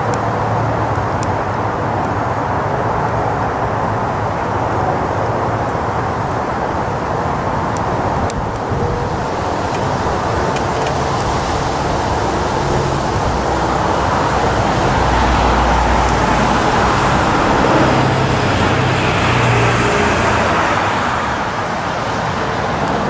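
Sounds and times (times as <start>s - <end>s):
engine roar: 0.0s - 23.0s.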